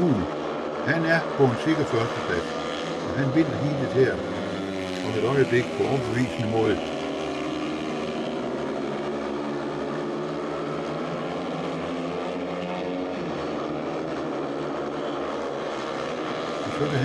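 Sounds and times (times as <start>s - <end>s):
motorcycle engines droning: 0.0s - 17.0s.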